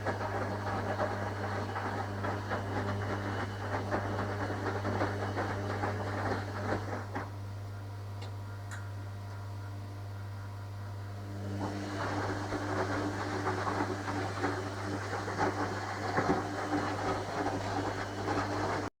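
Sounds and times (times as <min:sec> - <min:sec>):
washing machine motor rushing: 0:00.0 - 0:07.8, 0:10.9 - 0:18.9
washing machine hum: 0:00.0 - 0:18.9.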